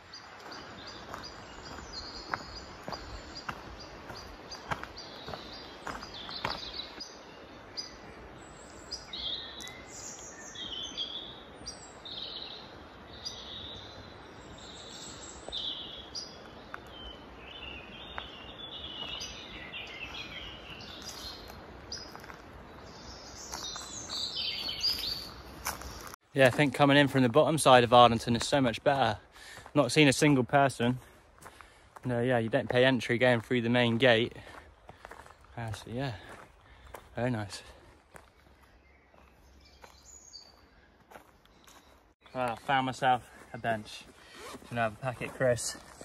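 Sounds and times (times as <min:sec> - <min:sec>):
birds chirping and singing: 0:00.0 - 0:26.2, 0:32.2 - 0:46.0.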